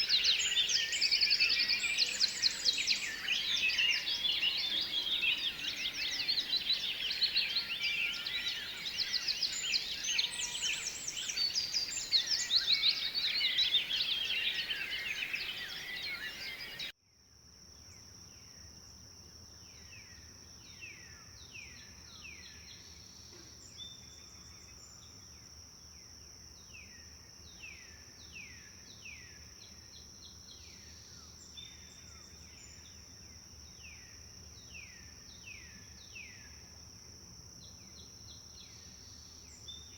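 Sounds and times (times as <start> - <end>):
songbird chorus: 0.0 - 17.0, 17.8 - 39.9.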